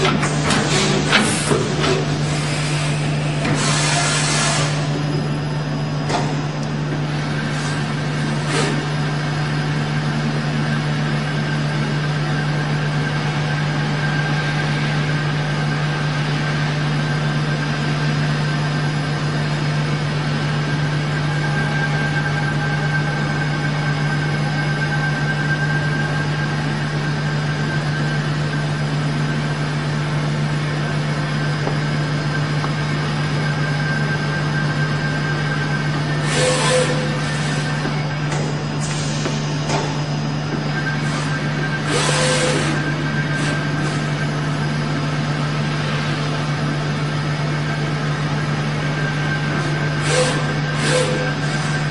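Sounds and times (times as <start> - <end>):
machining center hum and whine: 0.0 - 51.9.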